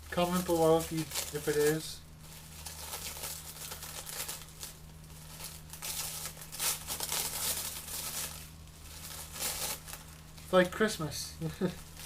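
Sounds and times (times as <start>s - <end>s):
packaging crinkling and tearing: 0.0s - 10.9s
steady low hum: 0.0s - 12.0s.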